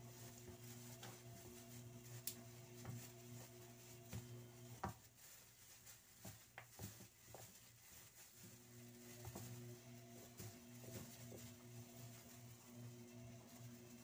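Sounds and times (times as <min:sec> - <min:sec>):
plastic glove crinkling: 0:00.0 - 0:14.0.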